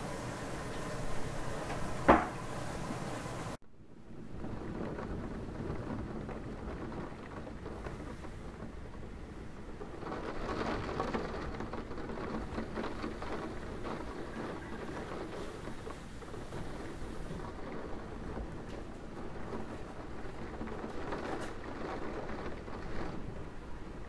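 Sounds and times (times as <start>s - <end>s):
steady rain: 0.0s - 24.0s
thunder rumbling: 0.0s - 24.0s.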